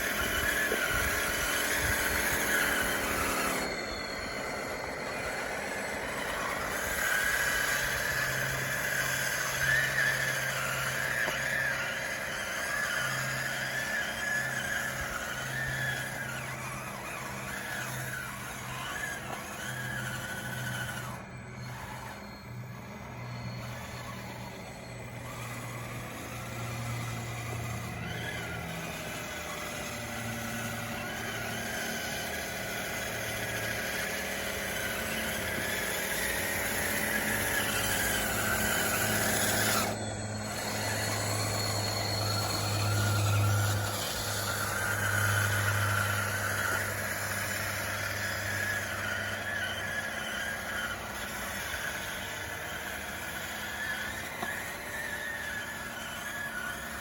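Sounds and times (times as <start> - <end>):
electric motors and gears whining: 0.0 - 57.0.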